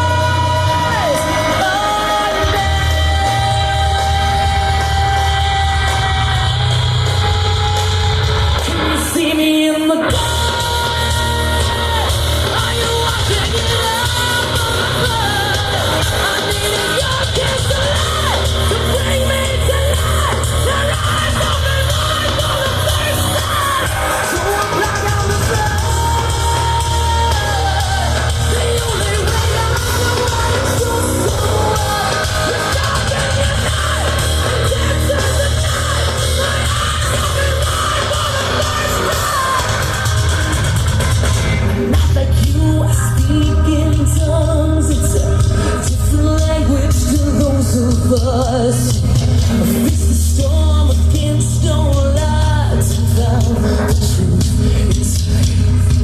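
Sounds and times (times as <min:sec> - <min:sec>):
person singing: 0:00.0 - 0:41.0, 0:41.6 - 0:56.0
live rock band playing: 0:00.0 - 0:56.0.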